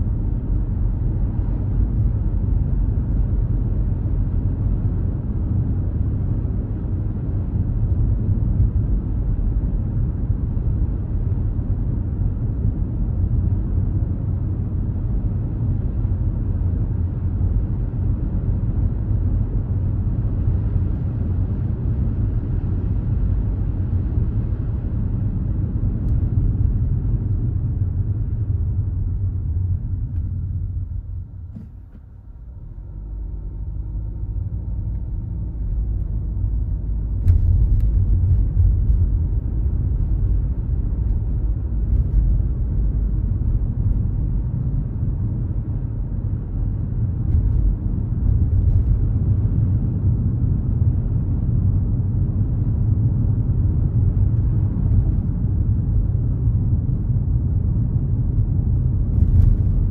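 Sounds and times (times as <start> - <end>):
road and wind noise in car: 0.0 - 59.9.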